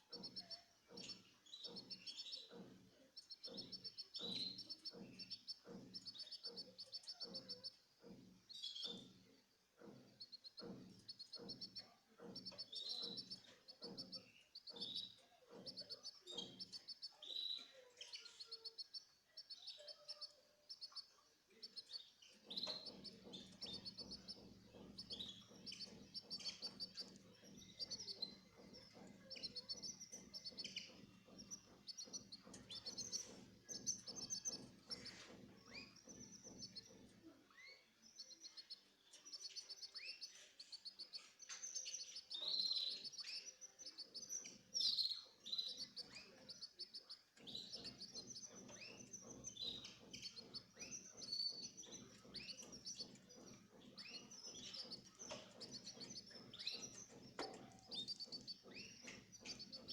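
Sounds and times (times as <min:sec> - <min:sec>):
cage birds chirping: 0:00.0 - 0:59.9.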